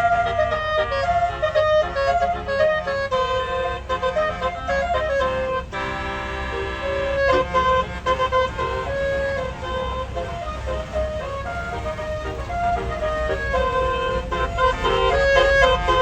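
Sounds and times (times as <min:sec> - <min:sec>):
bus horn playing a melody: 0:00.0 - 0:16.0.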